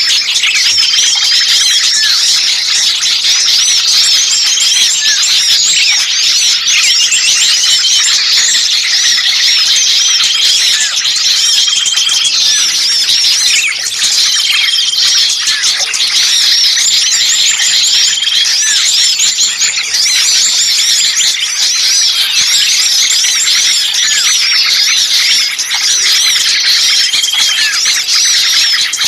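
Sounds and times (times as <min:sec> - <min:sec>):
bird distress calls: 0:00.0 - 0:29.0
bird trills: 0:00.0 - 0:29.0
songbirds chirping chorus: 0:00.0 - 0:29.0.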